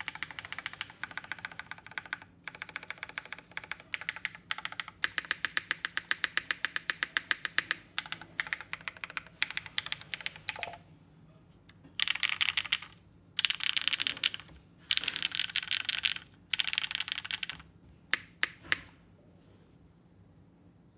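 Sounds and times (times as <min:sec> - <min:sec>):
mechanical keyboard keystrokes: 0:00.0 - 0:10.8, 0:12.0 - 0:18.9.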